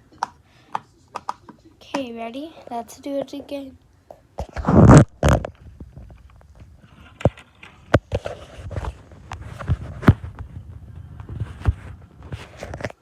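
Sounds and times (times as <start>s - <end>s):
rustling of handling: 1.2s - 13.0s.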